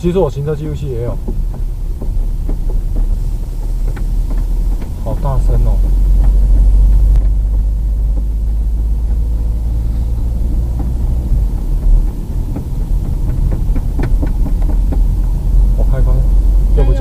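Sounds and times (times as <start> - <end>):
car driving slowly: 0.0 - 17.0
low drone from wheel arch: 0.8 - 17.0.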